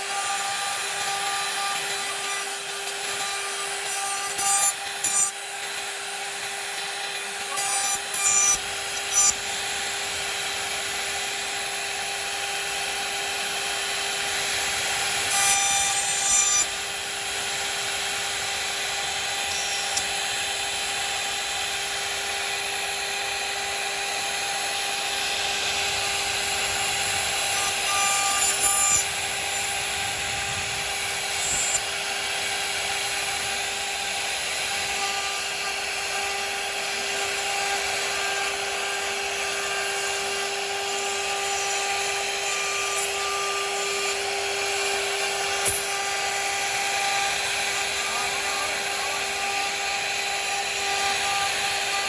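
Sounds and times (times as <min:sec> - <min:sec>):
router bit cutting wood: 0:00.0 - 0:52.0
router spindle whine: 0:00.0 - 0:52.0.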